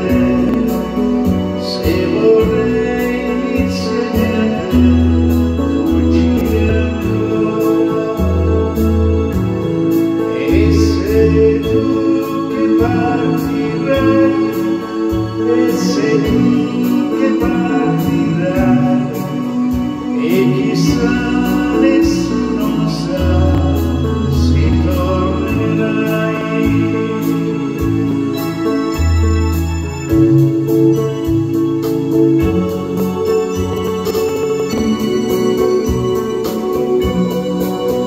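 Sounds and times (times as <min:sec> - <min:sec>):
man singing into microphone: 0:00.0 - 0:29.0, 0:30.1 - 0:38.0
backing music with bass: 0:00.0 - 0:38.0.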